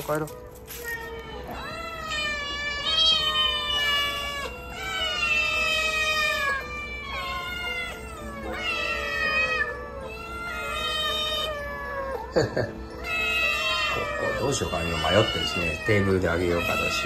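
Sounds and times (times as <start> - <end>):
cats meowing: 0.0 - 17.0.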